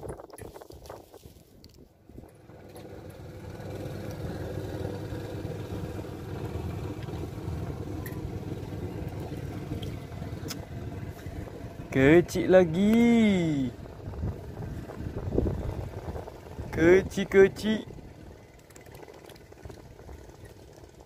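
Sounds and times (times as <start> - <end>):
motorboat engine running: 2.0 - 21.0.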